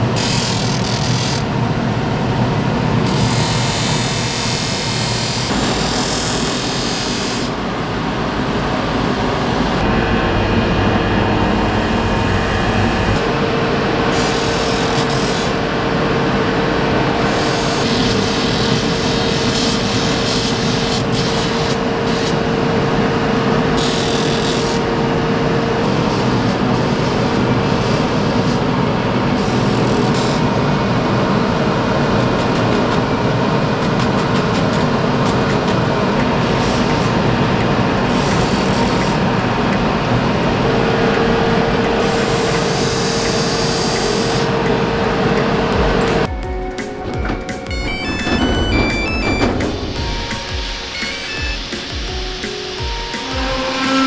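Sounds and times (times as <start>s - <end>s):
steady whine: 0.0s - 27.6s, 33.0s - 54.0s
machine hum: 0.0s - 27.8s, 28.8s - 54.0s.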